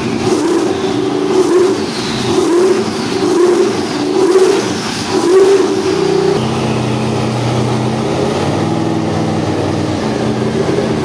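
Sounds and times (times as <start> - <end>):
engine running at high rpm: 0.0 - 11.0.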